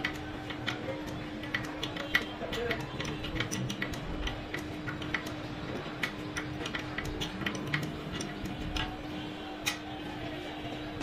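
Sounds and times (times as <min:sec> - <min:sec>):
spanner metallic clicks: 0:00.0 - 0:09.0.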